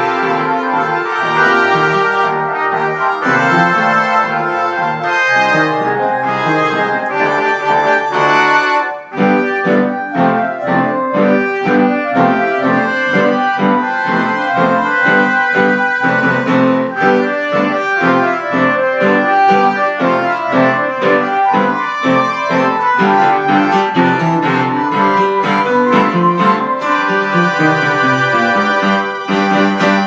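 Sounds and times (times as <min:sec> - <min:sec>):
lively piano piece: 0:00.0 - 0:30.0.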